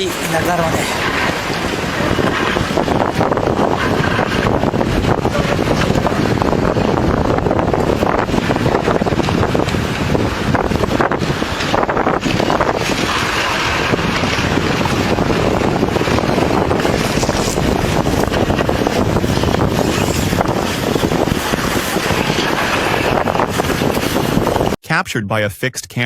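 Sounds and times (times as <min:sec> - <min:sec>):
steady rushing roar: 0:00.0 - 0:24.8
wind buffeting microphone: 0:00.0 - 0:24.8.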